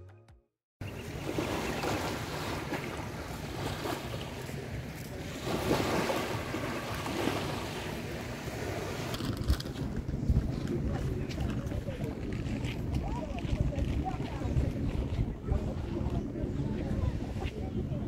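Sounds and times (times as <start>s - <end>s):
surf washing: 0.8s - 18.0s
wind buffeting microphone: 0.8s - 18.0s.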